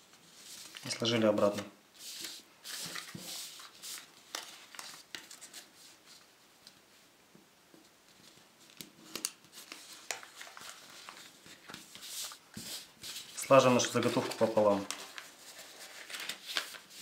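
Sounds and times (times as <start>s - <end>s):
paper rustling under fingertips: 0.3s - 6.3s, 8.1s - 17.0s.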